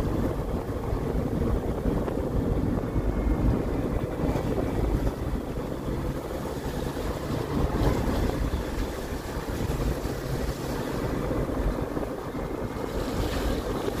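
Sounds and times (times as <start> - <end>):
vehicle rumble on road: 0.0 - 14.0
wind buffeting microphone: 0.0 - 14.0.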